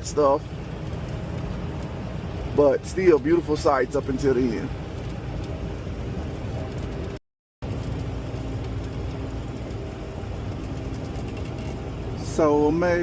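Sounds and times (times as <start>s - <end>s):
truck engine and road drone: 0.0s - 13.0s.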